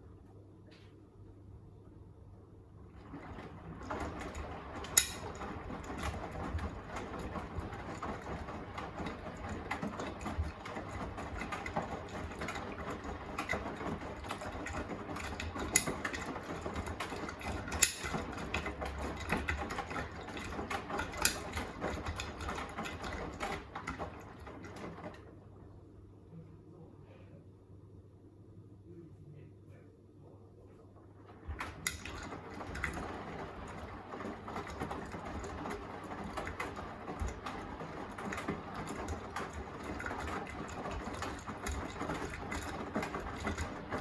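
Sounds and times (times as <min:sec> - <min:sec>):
washing machine drum tumbling: 0:02.8 - 0:25.8, 0:31.1 - 0:44.0.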